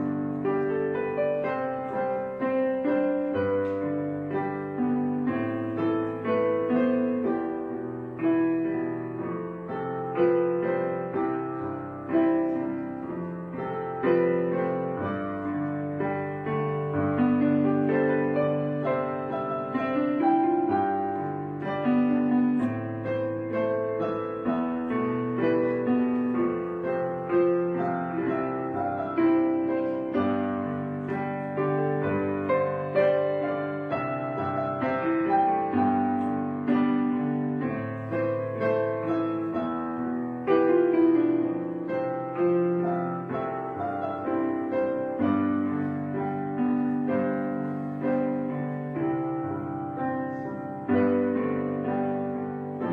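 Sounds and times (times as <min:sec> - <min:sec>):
gentle piano music: 0:00.0 - 0:52.9.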